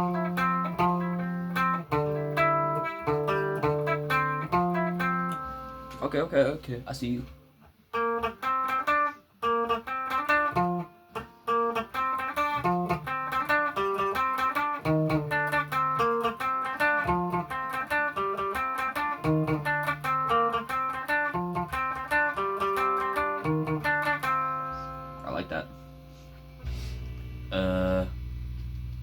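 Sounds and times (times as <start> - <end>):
guitar riff with picked notes: 0.0 - 29.0.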